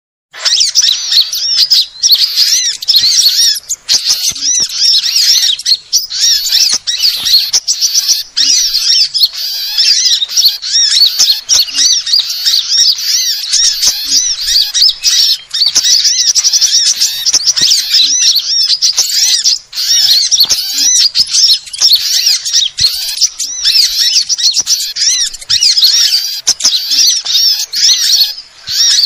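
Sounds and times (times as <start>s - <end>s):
birds chirping and twittering: 0.3s - 29.0s.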